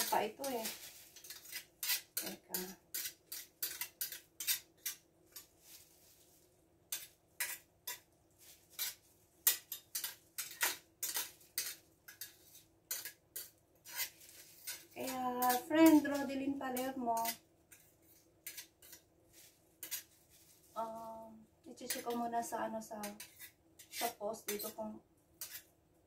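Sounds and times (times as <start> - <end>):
metal spoon clinking and scraping: 0.0 - 5.7, 6.9 - 20.5, 21.8 - 22.3, 23.0 - 25.7.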